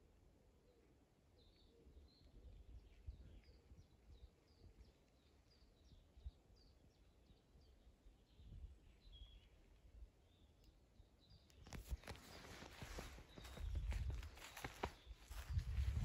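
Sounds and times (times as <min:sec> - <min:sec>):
songbird chirping: 0:00.5 - 0:16.0.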